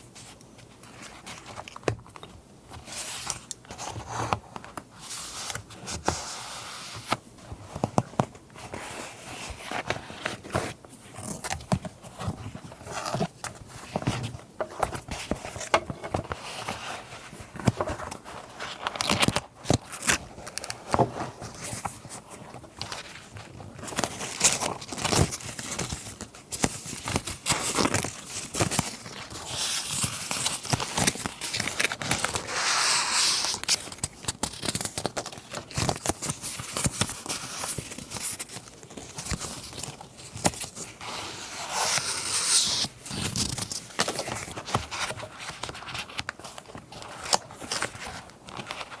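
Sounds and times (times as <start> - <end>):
paper rustling and crinkling: 0.0 - 49.0.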